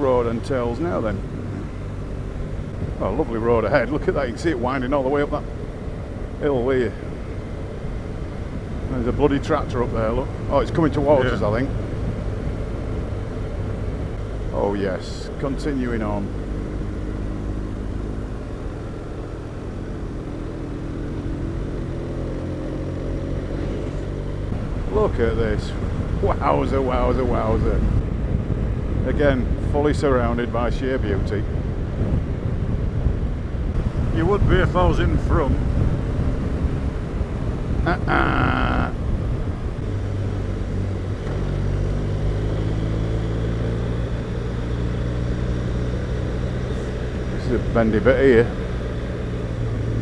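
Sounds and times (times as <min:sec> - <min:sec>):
constant rushing noise: 0:00.0 - 0:50.0
wind and road noise: 0:00.0 - 0:50.0.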